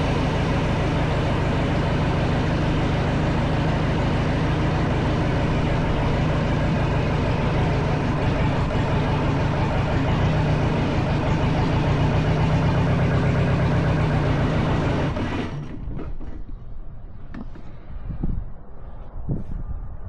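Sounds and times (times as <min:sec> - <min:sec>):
diesel engine misfiring: 0:00.0 - 0:18.0.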